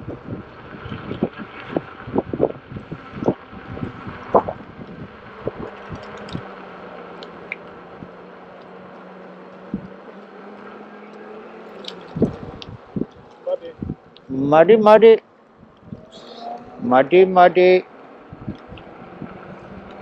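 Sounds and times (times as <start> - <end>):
low motor hum: 0.0 - 20.0
wind: 0.0 - 20.0.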